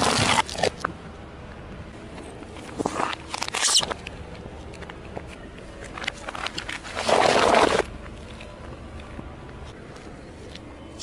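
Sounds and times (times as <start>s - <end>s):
reversed tyre crushing crunch: 0.0s - 1.0s, 2.1s - 10.7s.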